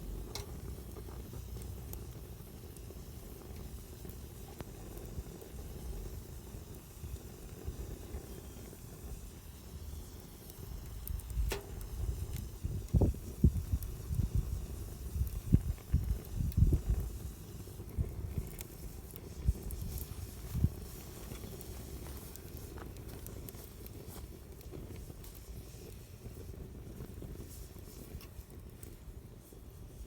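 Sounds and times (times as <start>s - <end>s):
campfire crackling: 0.0s - 30.0s
fire pop: 0.0s - 30.0s.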